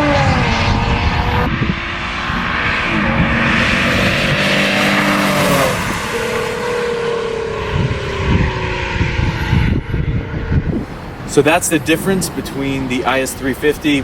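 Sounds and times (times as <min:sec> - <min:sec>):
car exhaust accelerating past: 0:00.0 - 0:12.6.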